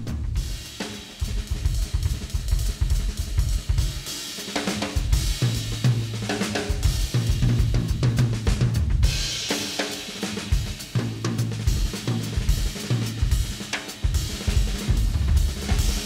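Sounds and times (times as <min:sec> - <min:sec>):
drum kit playing a beat: 0:00.0 - 0:16.0.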